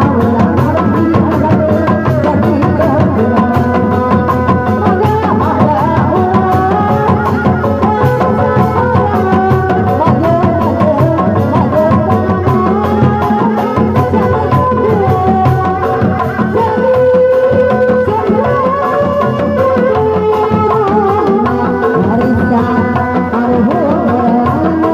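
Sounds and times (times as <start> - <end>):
procession drums beating: 0.0 - 24.9.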